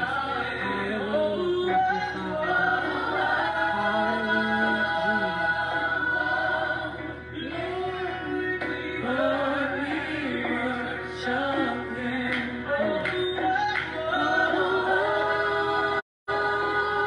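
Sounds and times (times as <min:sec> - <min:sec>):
gospel worship song: 0:00.0 - 0:17.0.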